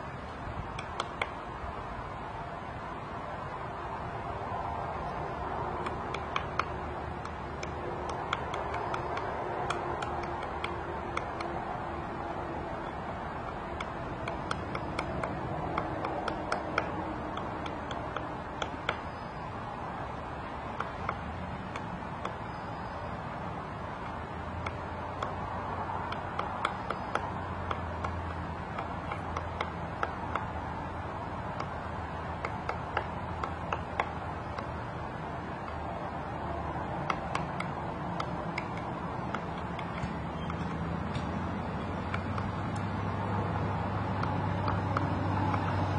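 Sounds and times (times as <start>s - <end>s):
steady background hiss: 0.0s - 45.9s
woodpecker tapping on wood: 0.6s - 1.5s, 4.9s - 45.9s.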